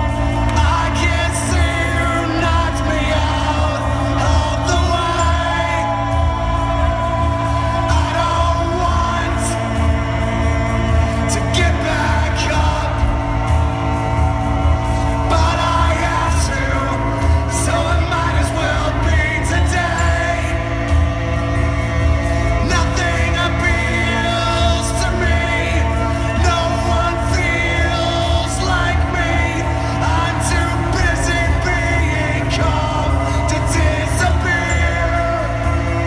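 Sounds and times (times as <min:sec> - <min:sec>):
rock music with singing over pa: 0:00.0 - 0:36.0.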